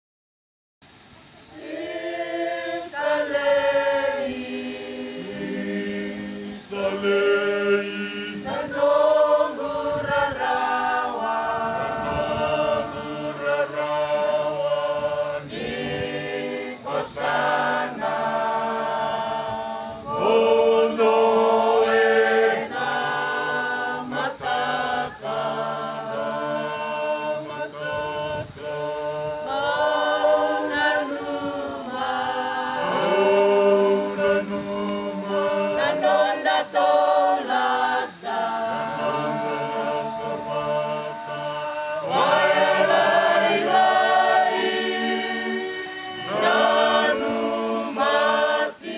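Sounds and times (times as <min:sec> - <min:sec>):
choir singing a cappella: 0:00.9 - 0:48.9.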